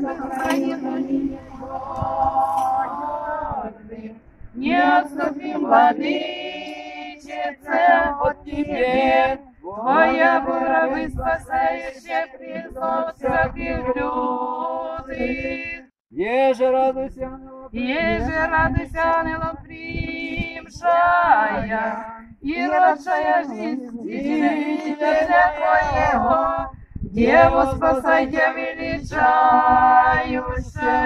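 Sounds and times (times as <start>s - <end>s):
group singing a cappella chant: 0.0s - 15.9s, 16.9s - 31.0s.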